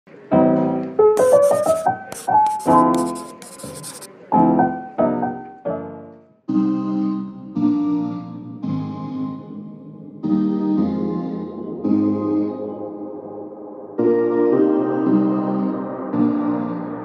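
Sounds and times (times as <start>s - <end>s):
piano chords: 0.2s - 17.0s.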